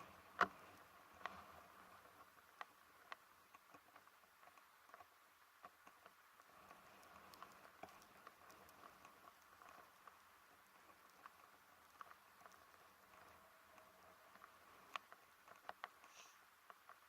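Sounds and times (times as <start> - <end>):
faint small ticks: 0.0 - 17.0
soft hiss: 0.0 - 17.0.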